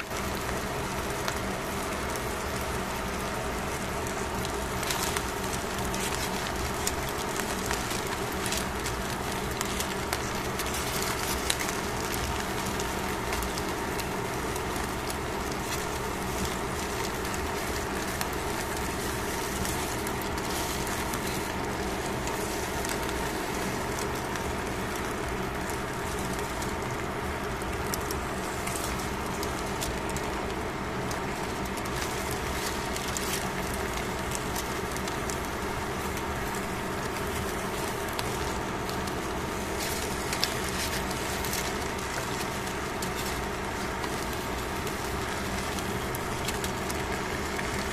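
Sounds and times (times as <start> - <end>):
fish sizzling in a pan: 0.0 - 47.9.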